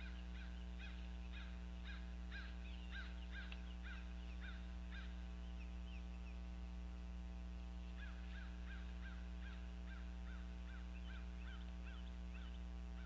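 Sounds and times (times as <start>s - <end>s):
high piping bird calls: 0.0s - 6.4s, 7.8s - 13.0s
steady electrical hum: 0.0s - 13.0s.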